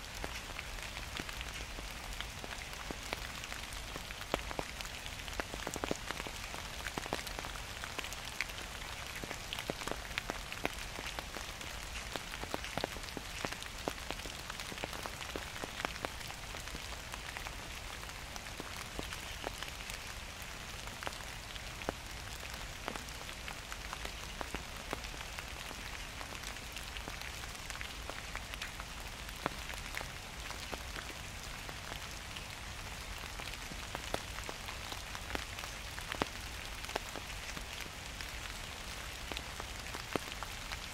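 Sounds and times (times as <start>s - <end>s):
gentle rain falling: 0.0s - 40.9s
raindrops pattering near microphone: 0.0s - 40.9s.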